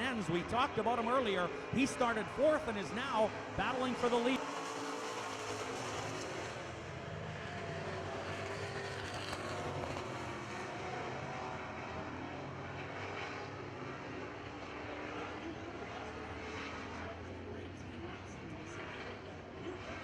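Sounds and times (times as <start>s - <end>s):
race truck engines droning: 0.0s - 20.0s.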